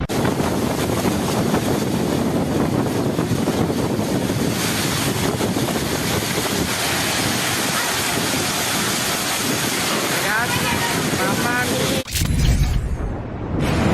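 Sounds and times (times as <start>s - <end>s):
wind gusting against microphone: 0.0s - 12.1s.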